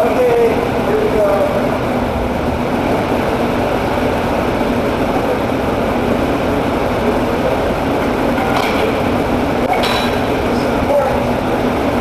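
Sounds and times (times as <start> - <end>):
mechanical background noise: 0.0 - 12.0.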